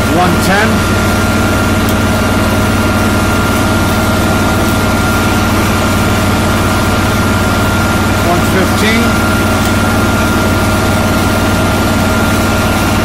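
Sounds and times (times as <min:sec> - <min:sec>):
high whine: 0:00.0 - 0:13.0
tractor engine idling: 0:00.0 - 0:13.0.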